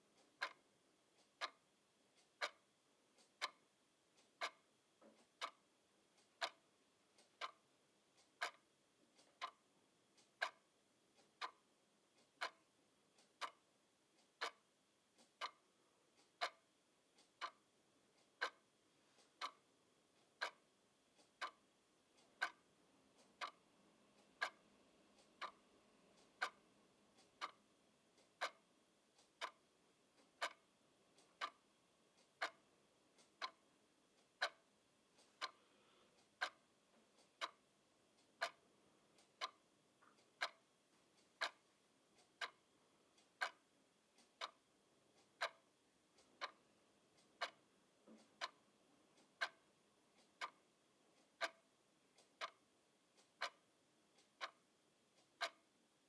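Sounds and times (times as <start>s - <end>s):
clock ticking: 0.0s - 56.0s.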